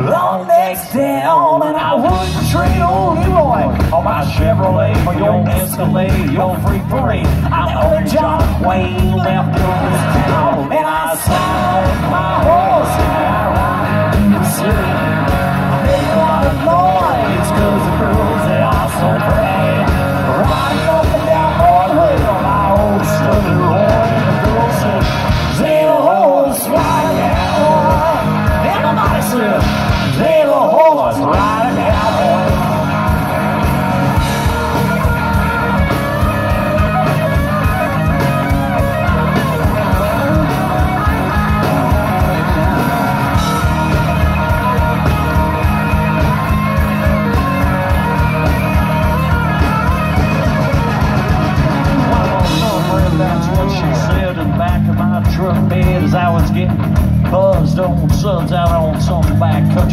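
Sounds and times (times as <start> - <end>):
bass guitar: 0.0 - 59.9
drums: 0.0 - 59.9
electric guitars: 0.0 - 59.9
person singing: 0.0 - 59.9.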